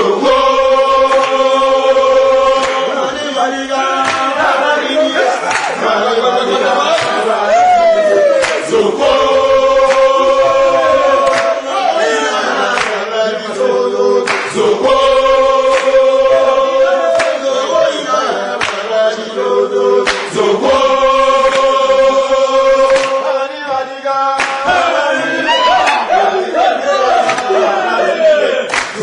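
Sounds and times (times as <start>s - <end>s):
choir singing in unison: 0.0s - 29.0s.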